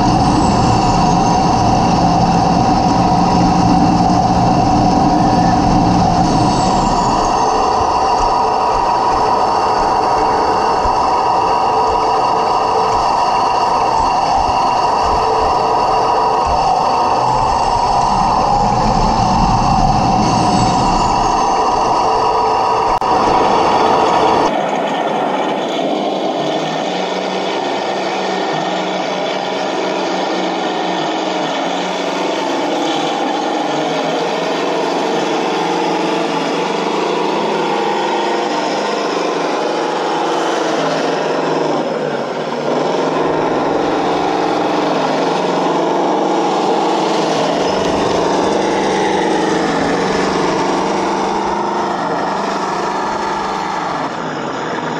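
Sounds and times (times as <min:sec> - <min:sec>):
electric motors whining: 0:00.0 - 0:54.9
electronic engine sound: 0:00.0 - 0:54.9.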